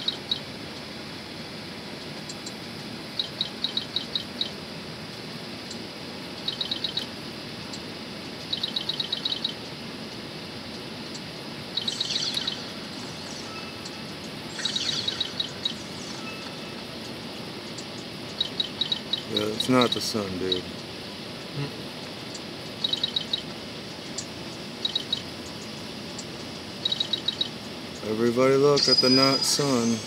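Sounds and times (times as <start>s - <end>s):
bird chirping trills: 0.0s - 0.9s, 2.2s - 4.6s, 5.6s - 9.8s, 11.0s - 30.0s
low background noise: 0.0s - 30.0s.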